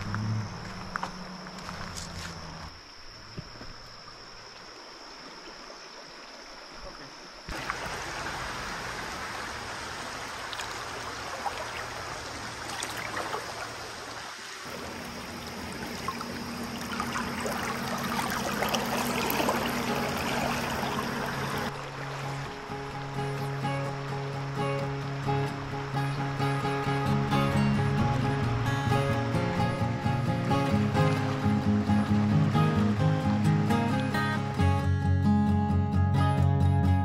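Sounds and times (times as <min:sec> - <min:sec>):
river water running over rocks: 0:00.0 - 0:34.8.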